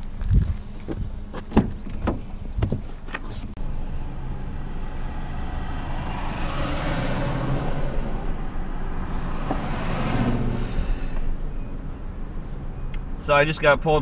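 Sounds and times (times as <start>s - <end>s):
car running: 0.0s - 14.0s
rushing road noise: 0.0s - 14.0s.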